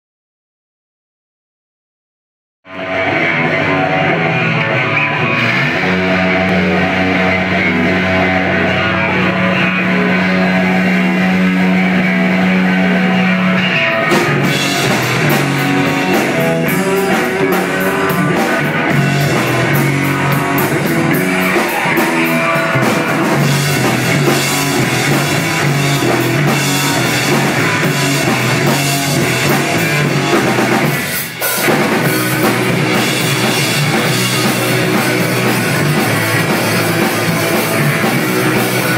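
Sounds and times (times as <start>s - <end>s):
drum kit: 2.7s - 38.9s
electric guitar: 2.7s - 38.9s
rock band playing loudly: 2.7s - 38.9s.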